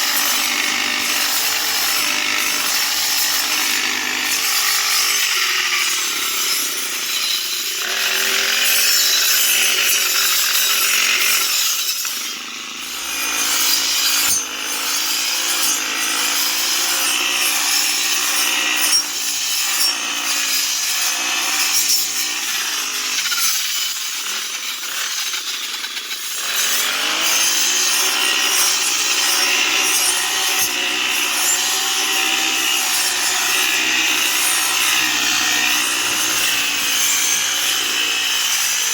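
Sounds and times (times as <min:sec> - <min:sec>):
grass cutter engine: 0:00.0 - 0:38.9
grass cutter rasping: 0:00.0 - 0:38.9.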